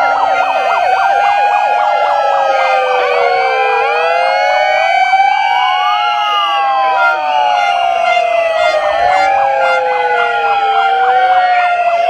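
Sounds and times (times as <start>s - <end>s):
rising and falling siren wails: 0.0s - 12.0s
warbling siren yelp: 0.0s - 12.0s.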